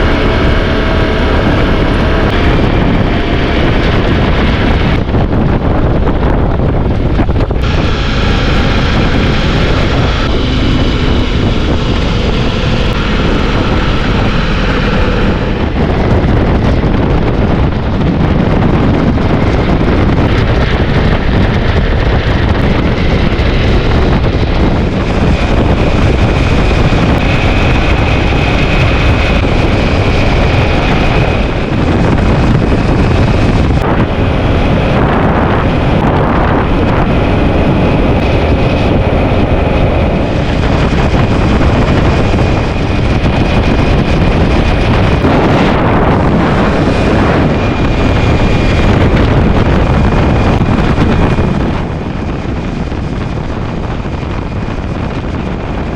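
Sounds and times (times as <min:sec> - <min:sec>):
motorcycle engine: 0:00.0 - 0:55.9
road noise: 0:00.0 - 0:55.9
wind buffeting microphone: 0:00.0 - 0:55.9.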